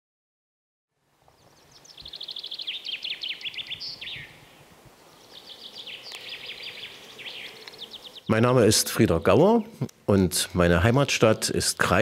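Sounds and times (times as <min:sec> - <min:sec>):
songbird singing: 0:01.3 - 0:12.0.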